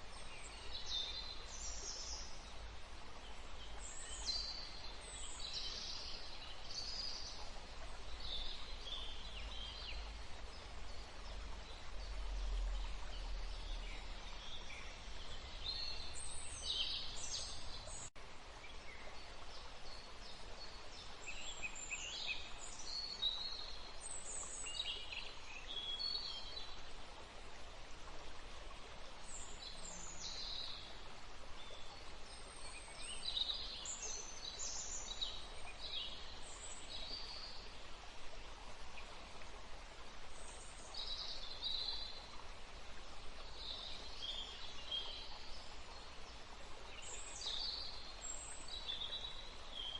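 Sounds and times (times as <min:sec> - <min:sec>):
forest background hiss: 0:00.0 - 0:49.9.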